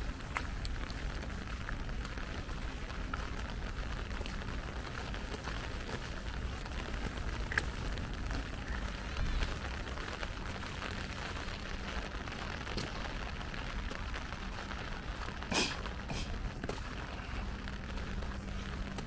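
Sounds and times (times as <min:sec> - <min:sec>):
light rain hissing: 0:00.0 - 0:19.0
low rumble: 0:00.0 - 0:19.0
raindrops ticking: 0:00.0 - 0:19.0.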